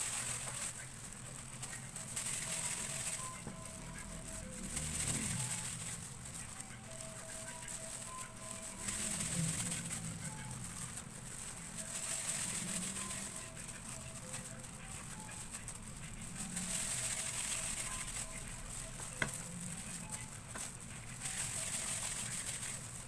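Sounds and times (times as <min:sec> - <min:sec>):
faint music: 0:00.0 - 0:23.0
plastic gloves crinkling: 0:00.0 - 0:23.0.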